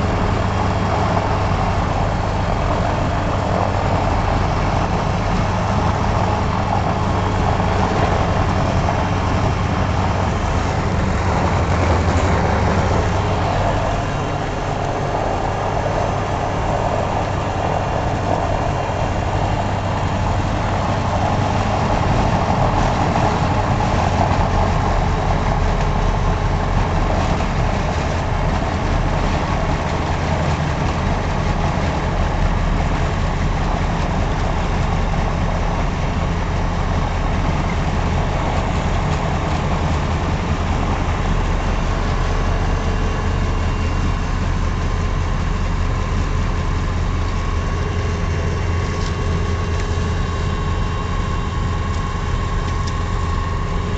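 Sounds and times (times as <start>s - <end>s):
aircraft engine and propeller droning: 0.0s - 53.9s.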